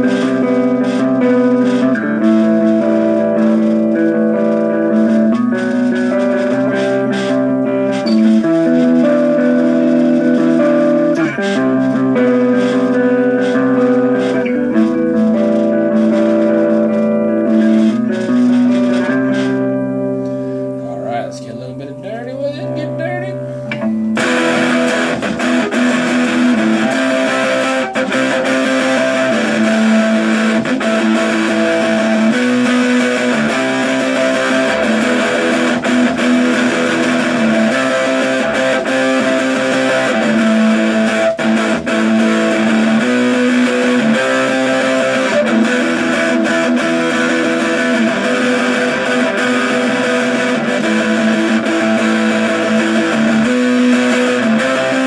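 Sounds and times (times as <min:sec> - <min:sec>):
electric guitar through small amp: 0:00.0 - 0:55.0.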